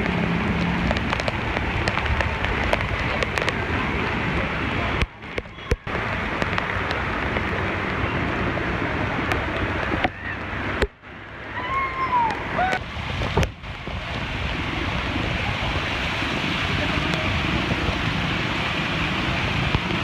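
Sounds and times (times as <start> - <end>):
heavy rain rushing: 0.0 - 20.0.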